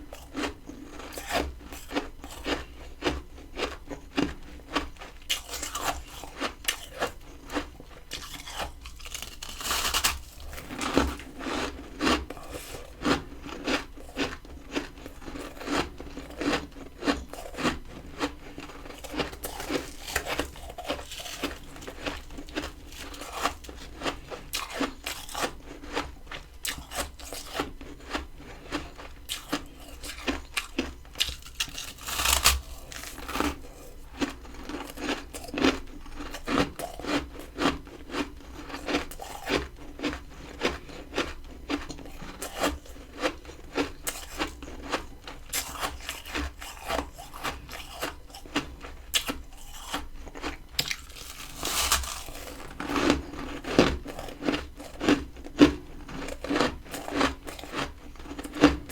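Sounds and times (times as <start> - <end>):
frost crunching while chewed: 0.0 - 58.9.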